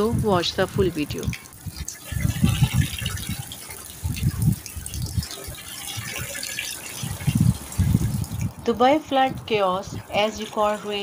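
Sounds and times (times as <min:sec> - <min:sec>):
wind gusting on microphone: 0:00.0 - 0:11.0.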